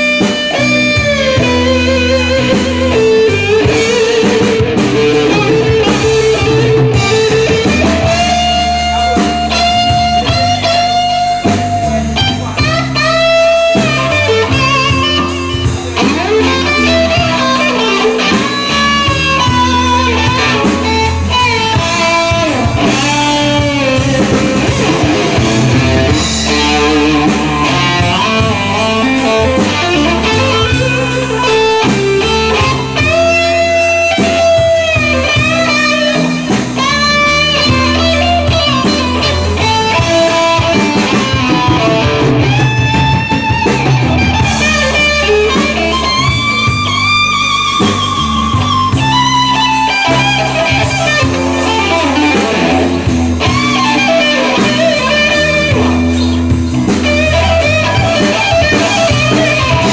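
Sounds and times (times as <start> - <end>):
drum kit: 0.0 - 59.9
electric guitar lead: 0.0 - 59.9.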